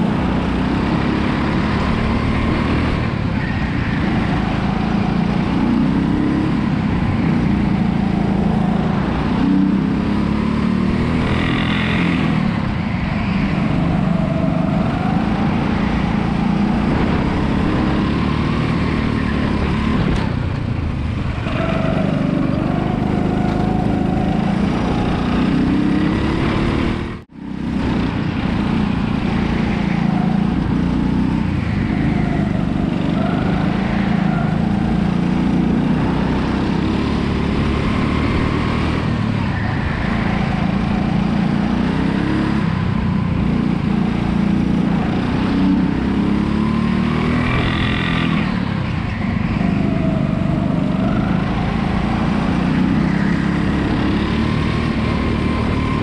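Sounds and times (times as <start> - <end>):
kart petrol engine revving: 0.0 - 56.0.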